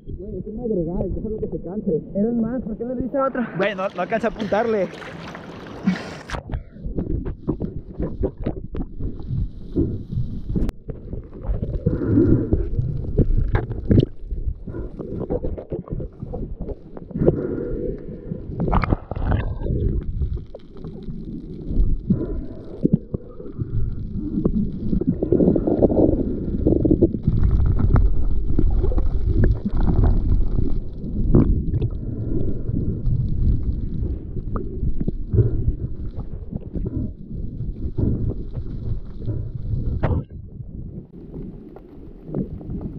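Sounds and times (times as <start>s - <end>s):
underwater rumble and gurgling: 0.0s - 42.9s.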